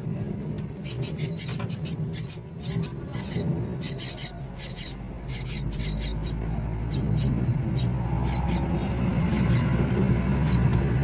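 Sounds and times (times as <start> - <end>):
low steady rumble: 0.0 - 11.0
nestlings squeaky begging calls: 0.8 - 9.7, 10.4 - 10.7.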